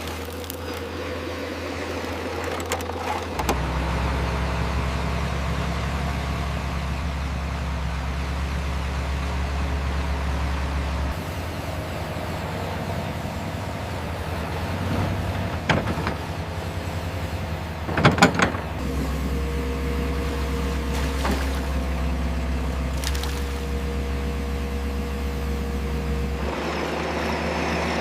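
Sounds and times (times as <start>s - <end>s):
low engine-like hum: 0.0s - 28.0s.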